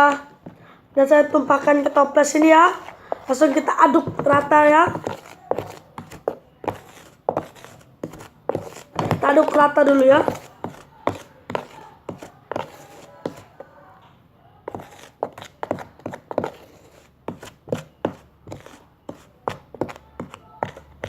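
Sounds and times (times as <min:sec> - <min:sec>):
stirrer knocking and scraping jar: 0:01.6 - 0:13.7, 0:14.7 - 0:21.0.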